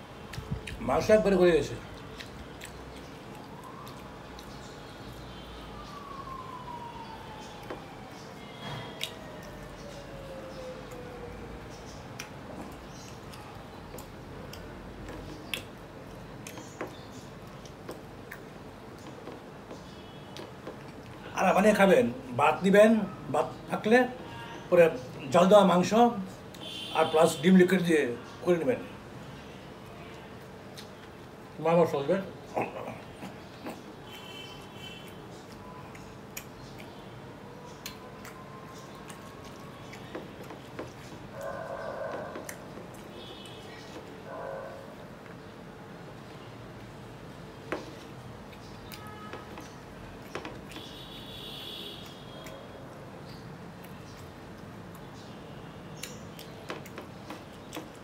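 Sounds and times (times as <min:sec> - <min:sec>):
steady background noise: 0:00.0 - 0:58.0
man chewing food: 0:00.2 - 0:00.8, 0:01.8 - 0:21.3, 0:29.1 - 0:31.6, 0:32.4 - 0:51.2, 0:52.0 - 0:55.2, 0:56.0 - 0:58.0.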